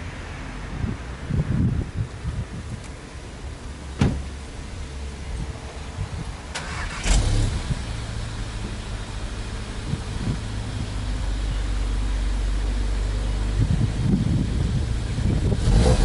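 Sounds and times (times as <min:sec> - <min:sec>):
car engine starting and idling: 0:00.0 - 0:16.0.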